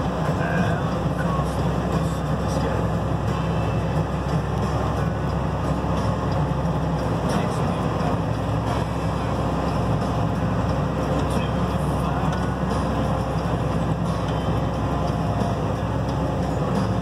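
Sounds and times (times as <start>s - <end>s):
tractor engine drone from cab: 0.0s - 17.0s.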